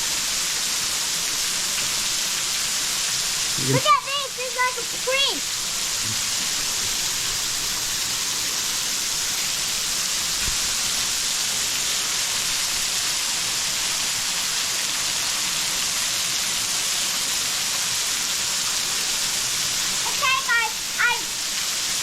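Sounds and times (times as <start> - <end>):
waterfall hissing: 0.0 - 22.0.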